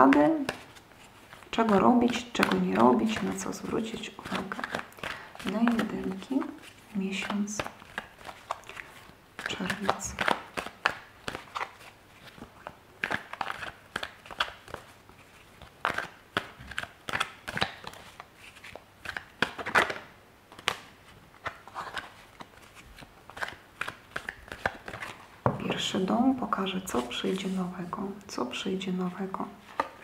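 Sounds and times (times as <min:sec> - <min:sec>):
cards being shuffled: 0:00.0 - 0:27.9, 0:29.4 - 0:30.0.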